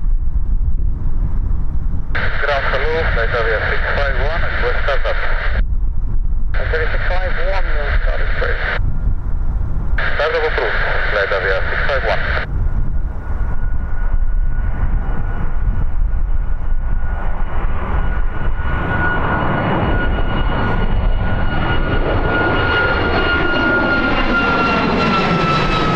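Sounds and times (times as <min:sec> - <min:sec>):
jet engine rumble with fan whine: 0:00.0 - 0:25.9.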